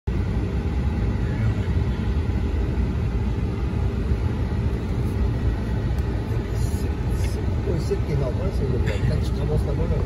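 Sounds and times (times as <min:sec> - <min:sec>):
vehicle engine low rumble: 0:00.1 - 0:10.0.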